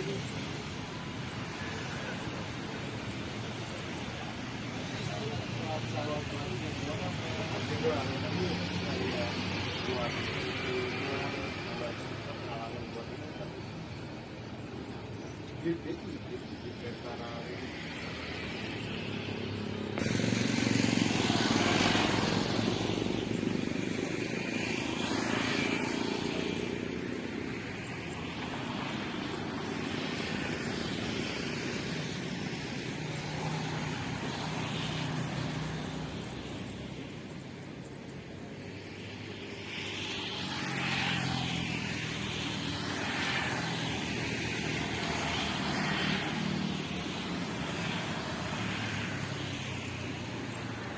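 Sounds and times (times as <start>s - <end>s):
jet airliner engines rumbling: 0.0s - 50.9s.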